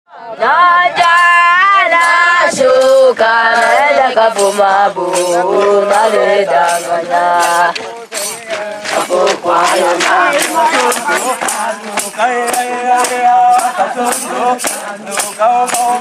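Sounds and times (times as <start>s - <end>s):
group singing a chant: 0.1s - 16.0s
sharp percussive hits: 1.0s - 16.0s.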